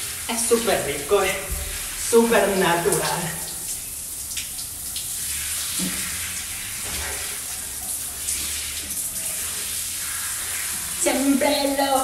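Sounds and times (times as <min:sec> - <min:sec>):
shower running: 0:00.0 - 0:12.0.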